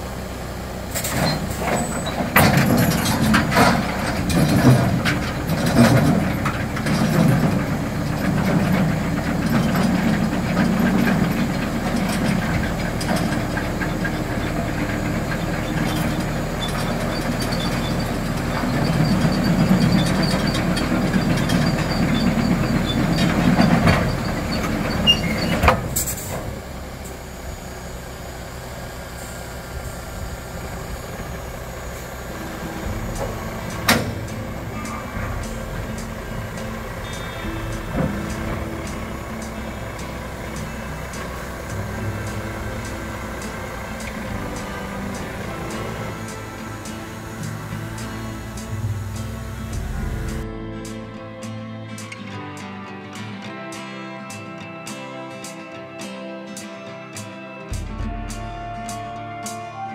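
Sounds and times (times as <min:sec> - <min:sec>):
gravel load clanks and knocks: 0:00.0 - 0:28.1, 0:28.8 - 0:50.7
truck engine rumble: 0:00.0 - 0:52.5, 0:57.6 - 0:59.9.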